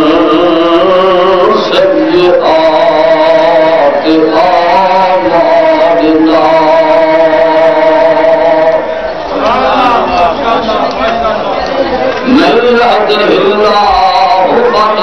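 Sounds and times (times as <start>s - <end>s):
man chanting: 0.0s - 11.0s, 12.3s - 15.0s.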